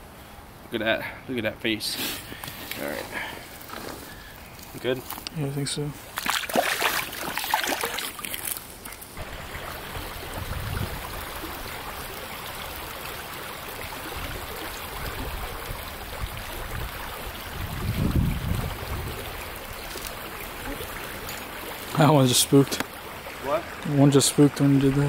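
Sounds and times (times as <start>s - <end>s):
creek running over its bed: 0.3s - 25.0s.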